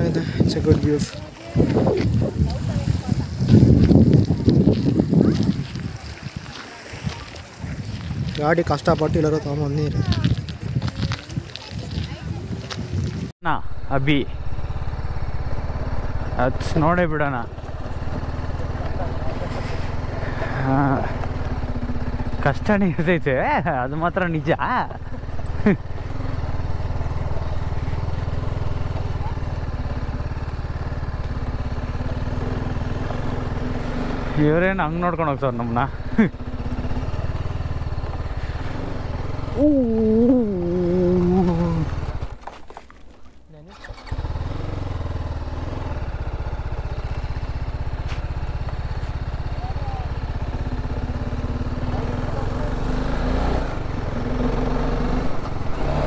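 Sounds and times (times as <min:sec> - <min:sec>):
motorcycle engine running steadily: 0:00.0 - 0:06.1, 0:11.9 - 0:42.5, 0:44.0 - 0:56.0.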